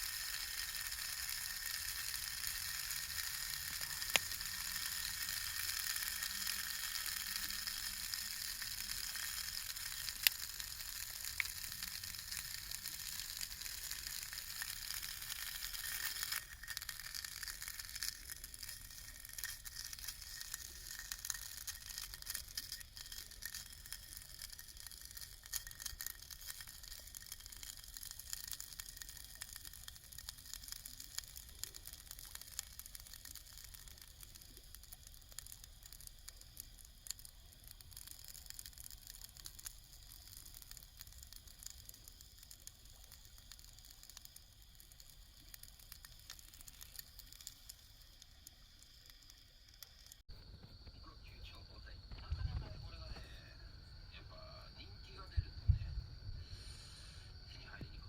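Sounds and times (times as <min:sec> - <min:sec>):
food sizzling in a hot pan: 0:00.0 - 0:50.3.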